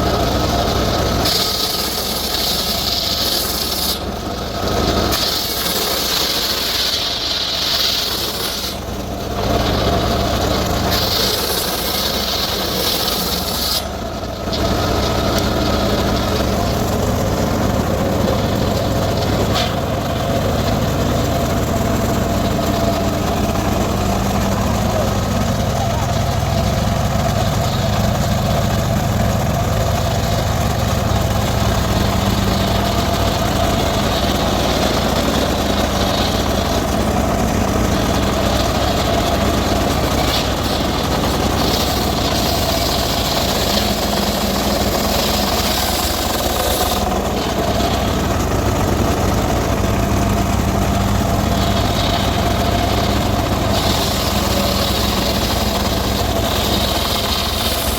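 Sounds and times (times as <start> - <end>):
circular saw cutting wood: 0.0 - 57.9
saw running with whine: 0.0 - 57.9.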